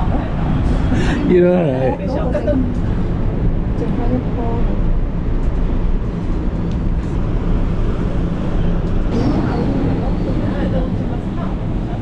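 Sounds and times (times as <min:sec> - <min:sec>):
cable car cabin rumble: 0:00.0 - 0:12.0.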